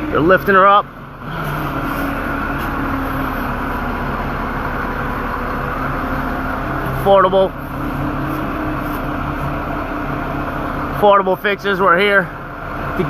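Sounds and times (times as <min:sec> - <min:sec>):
crane engine humming: 0:00.0 - 0:13.0.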